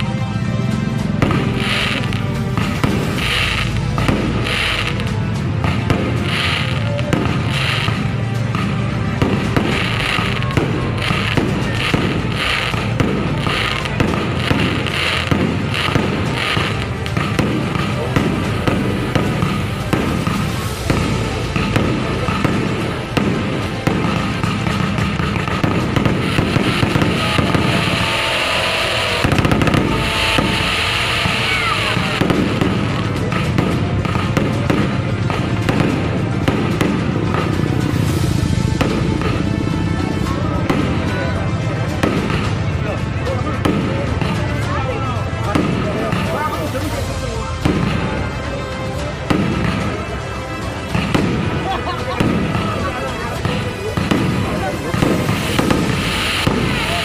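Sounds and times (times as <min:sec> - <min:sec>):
fireworks crackling and popping: 0:00.0 - 0:57.0.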